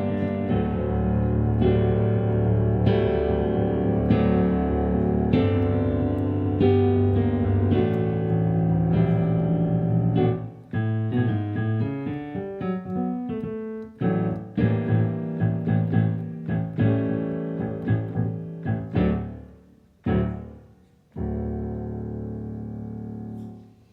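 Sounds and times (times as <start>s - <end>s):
solo piano playing: 0.0s - 23.9s.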